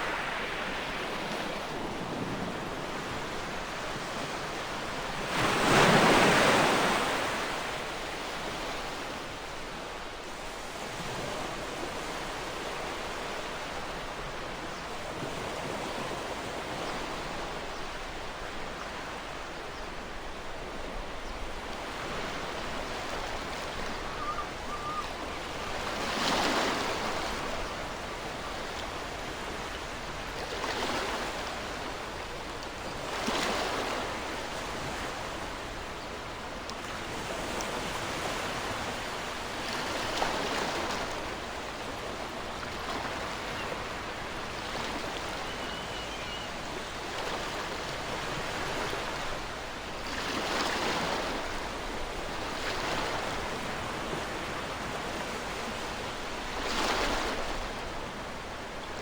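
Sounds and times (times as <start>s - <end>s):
ocean surf: 0.0s - 9.6s, 20.1s - 59.0s.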